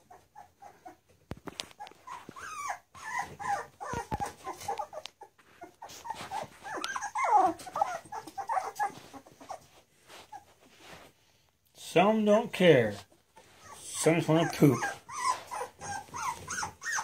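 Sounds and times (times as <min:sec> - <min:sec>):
puppies whining and whimpering: 0:00.0 - 0:10.9, 0:13.0 - 0:17.0.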